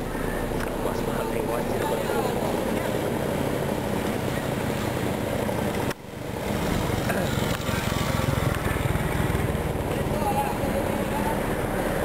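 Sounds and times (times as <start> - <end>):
engine running with low pulsing: 0.0 - 12.0.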